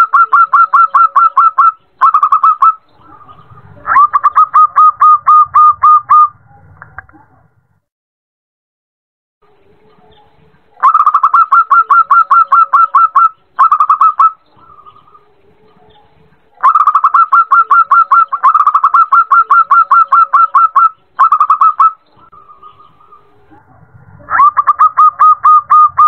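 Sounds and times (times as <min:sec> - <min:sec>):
dove cooing: 0:00.0 - 0:06.4, 0:10.8 - 0:26.0.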